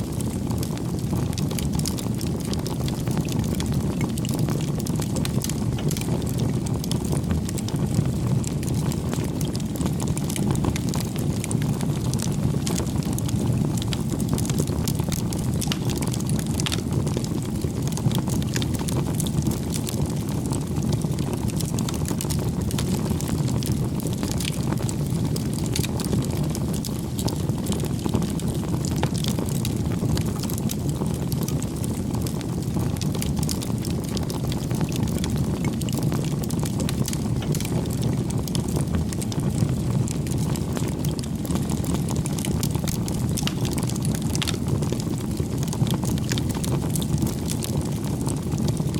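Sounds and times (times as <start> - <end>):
campfire flames rumbling: 0.0 - 48.9
wood crackling and popping: 0.0 - 48.9.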